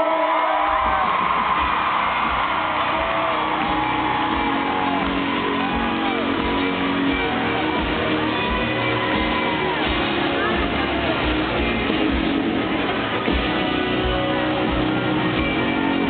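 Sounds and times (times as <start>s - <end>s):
crowd whooping and shouting: 0.0s - 16.0s
live country-rock band: 0.2s - 16.0s.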